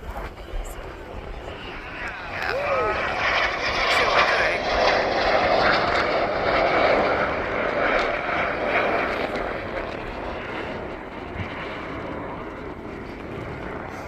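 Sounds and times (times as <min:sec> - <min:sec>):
jet aircraft flying past: 0:00.0 - 0:14.0.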